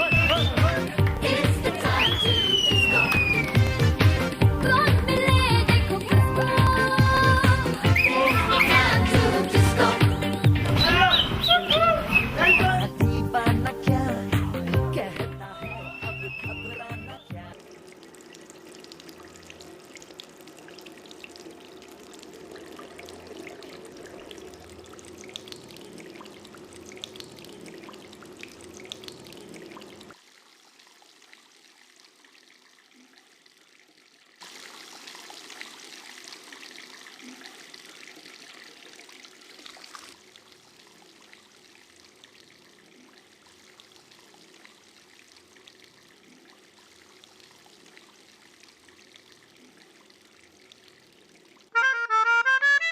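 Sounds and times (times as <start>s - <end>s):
water running and trickling: 0.0s - 51.8s.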